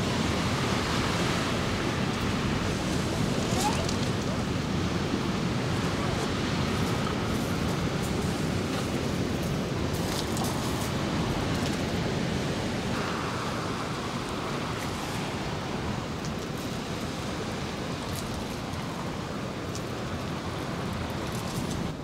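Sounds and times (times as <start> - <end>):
surf washing: 0.0 - 22.0.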